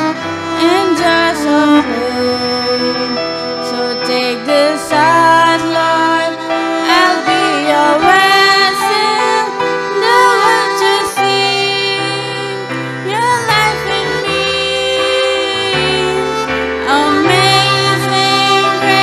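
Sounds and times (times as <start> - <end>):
digital piano: 0.0 - 19.0
violin: 0.0 - 19.0
woman singing: 0.0 - 19.0.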